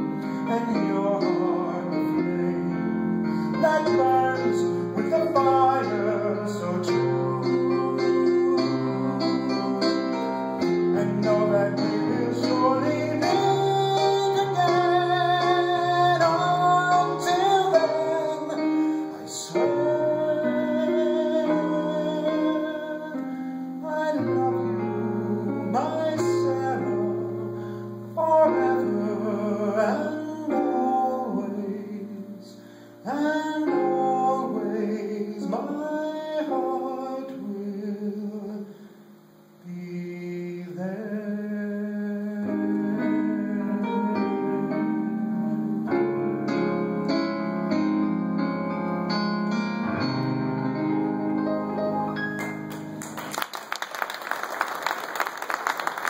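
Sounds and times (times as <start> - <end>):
man singing: 0.0 - 38.8, 39.6 - 46.6
digital piano chords: 0.0 - 39.9, 40.8 - 53.8.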